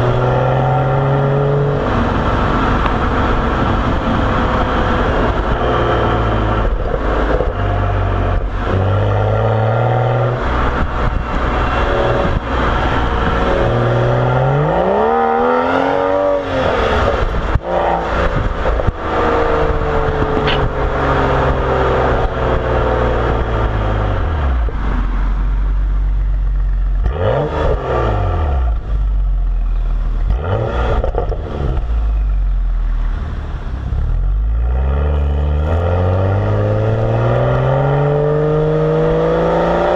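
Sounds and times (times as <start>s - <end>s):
car engine revving while driving: 0.0s - 25.4s, 26.9s - 39.9s.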